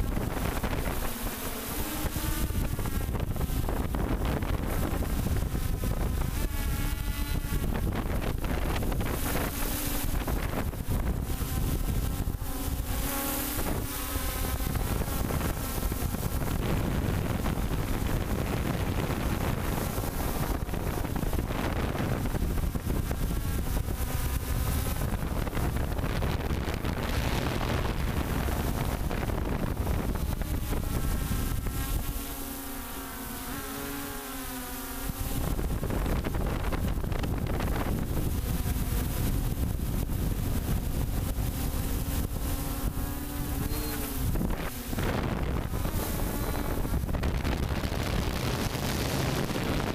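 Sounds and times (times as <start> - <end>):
drone motors and propellers whining: 0.0 - 49.9
wind noise on microphone: 0.0 - 49.9.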